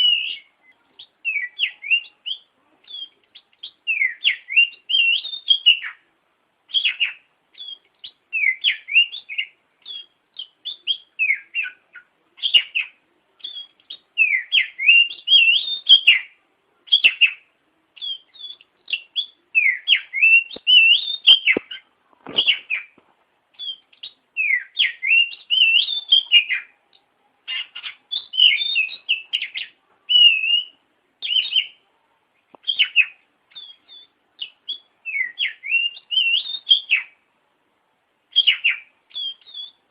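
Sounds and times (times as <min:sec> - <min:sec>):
bird singing whistled notes: 0:00.0 - 0:06.0, 0:06.7 - 0:23.0, 0:23.6 - 0:26.8, 0:27.5 - 0:31.8, 0:32.6 - 0:37.2, 0:38.3 - 0:39.9.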